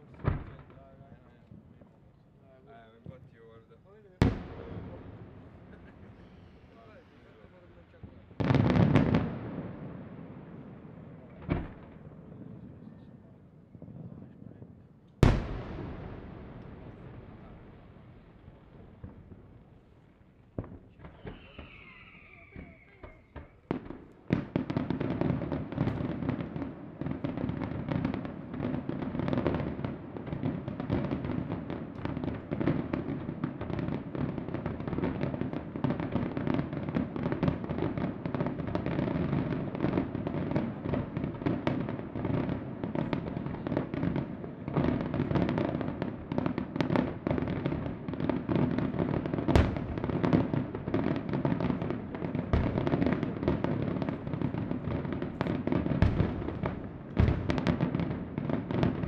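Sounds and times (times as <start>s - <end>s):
fireworks barrage: 0.0s - 59.0s.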